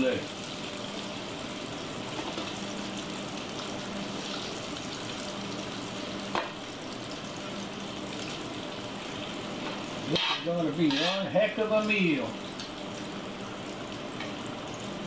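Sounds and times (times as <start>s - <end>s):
fish deep-frying in oil: 0.0s - 15.0s.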